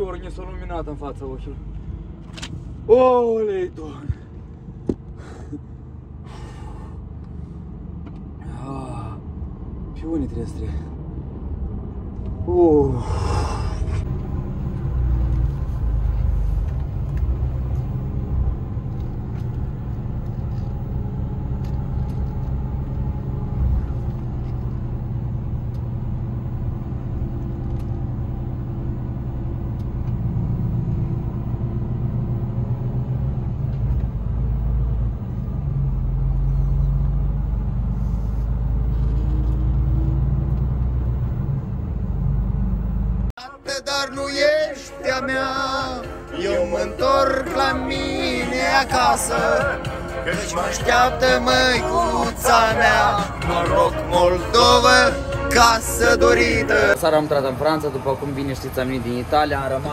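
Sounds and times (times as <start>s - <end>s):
road noise: 0.0s - 59.9s
truck engine drone: 0.0s - 59.9s.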